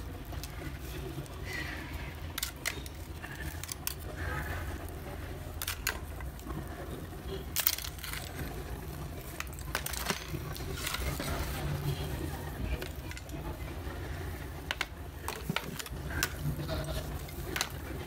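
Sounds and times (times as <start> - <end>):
clay pieces clicking and cracking: 0.1 - 11.4, 12.6 - 18.0.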